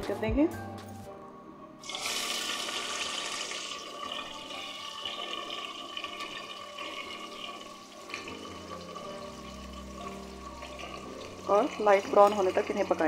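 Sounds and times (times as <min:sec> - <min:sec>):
onions sizzling in hot fat: 0:01.8 - 0:13.0.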